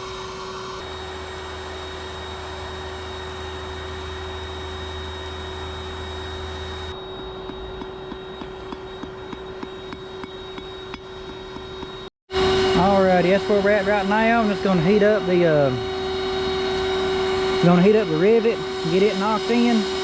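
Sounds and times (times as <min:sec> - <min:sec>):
forge blower rushing air: 0:00.0 - 0:20.0
low electric hum: 0:00.0 - 0:20.0.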